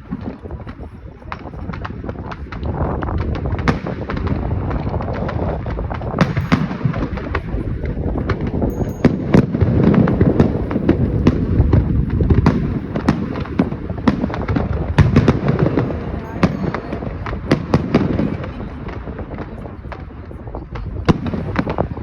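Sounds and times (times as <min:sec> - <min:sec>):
fireworks bangs and crackles: 0:00.0 - 0:22.0
low rumble of fireworks: 0:00.0 - 0:22.0.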